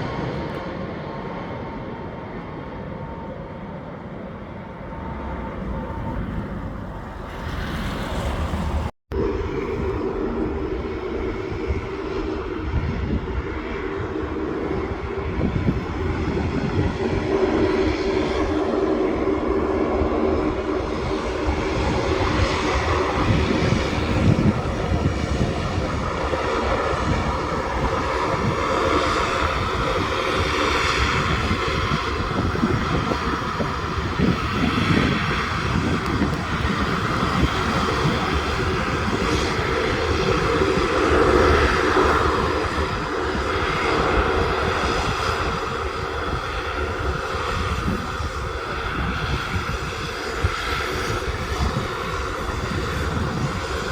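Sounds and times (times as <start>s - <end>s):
aircraft engines droning: 0.0s - 53.9s.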